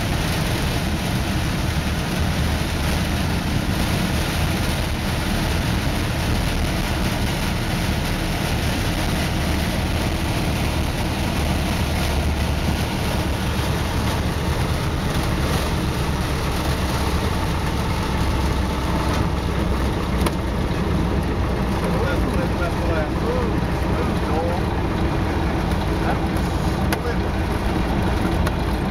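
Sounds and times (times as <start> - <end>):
small plane engine running: 0.0 - 28.9
wind: 0.0 - 28.9.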